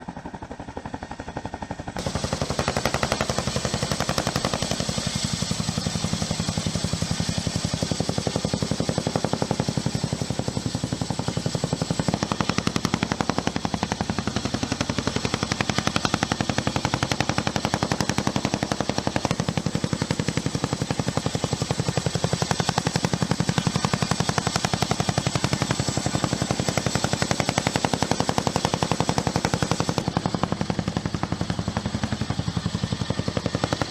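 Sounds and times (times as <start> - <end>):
helicopter high whine: 0.0 - 33.9
helicopter rotor chop: 0.0 - 33.9.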